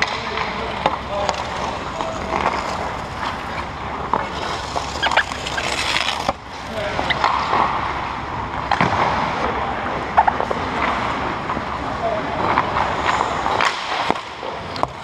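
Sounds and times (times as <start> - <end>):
clacks of sticks and puck: 0.0 - 15.0
skates scraping on ice: 0.0 - 15.0.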